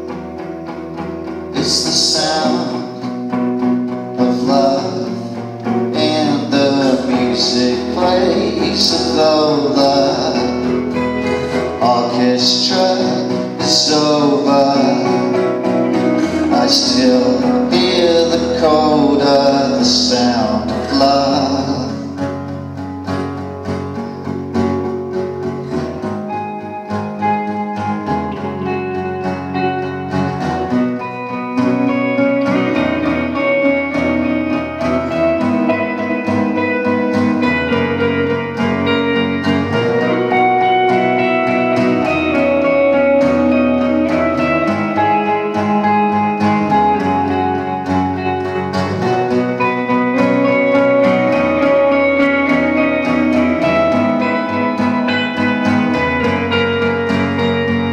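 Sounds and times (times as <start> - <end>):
acoustic guitar strumming chords: 0.0 - 57.9
electric guitar lead notes: 0.0 - 57.9.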